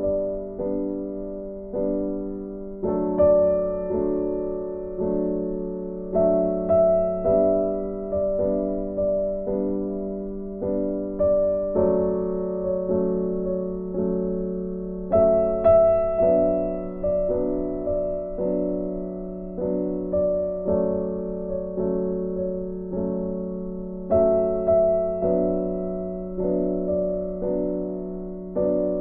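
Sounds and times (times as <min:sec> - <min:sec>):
gentle piano notes: 0:00.0 - 0:29.0.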